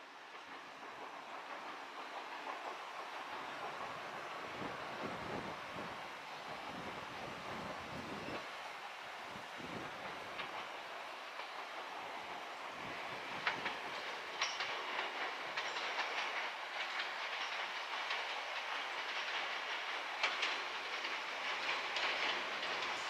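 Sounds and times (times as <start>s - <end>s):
train wheels clacking over rail joints: 0.0s - 23.0s.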